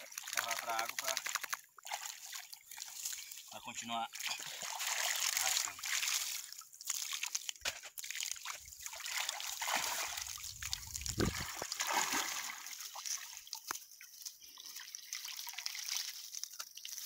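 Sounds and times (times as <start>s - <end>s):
light water splashing: 0.0s - 17.0s
water trickling and dripping: 0.0s - 17.0s.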